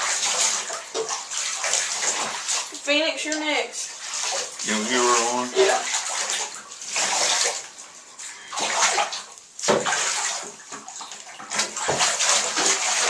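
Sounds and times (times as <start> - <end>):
water splashing in a bathtub: 0.0 - 13.0.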